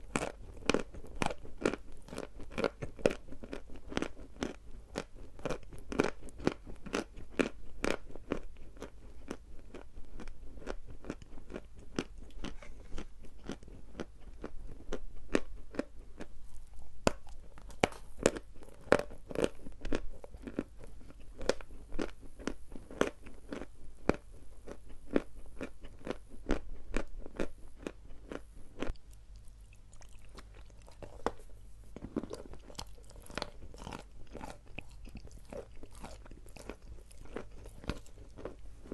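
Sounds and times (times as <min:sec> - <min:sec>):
chalk being crunched and chewed: 0:00.0 - 0:38.9.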